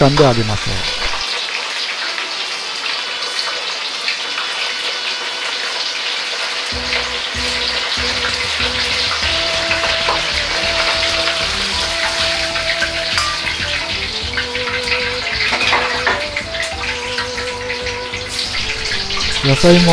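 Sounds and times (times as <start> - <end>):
seafood deep-frying sizzle: 0.0 - 19.9.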